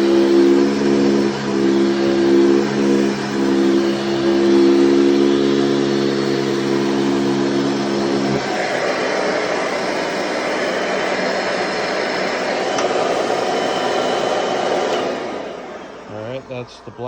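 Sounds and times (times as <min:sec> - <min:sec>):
vacuum cleaner fan hiss: 0:00.0 - 0:17.0
vacuum cleaner motor hum: 0:00.0 - 0:17.0.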